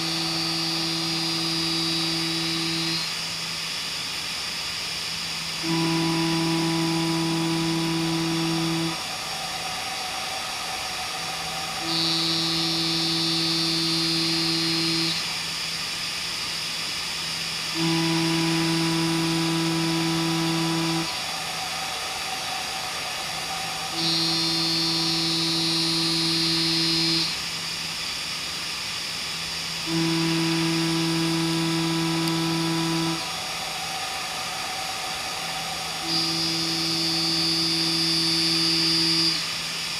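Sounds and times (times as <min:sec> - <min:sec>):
machine steady hiss: 0:00.0 - 0:39.9
milling cutter whine: 0:00.0 - 0:39.9.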